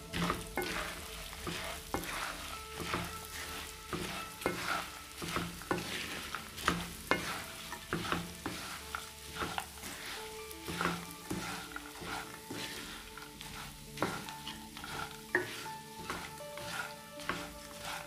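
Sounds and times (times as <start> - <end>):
oil sizzling: 0.0 - 18.0
spoon scraping frying pan: 0.0 - 18.0.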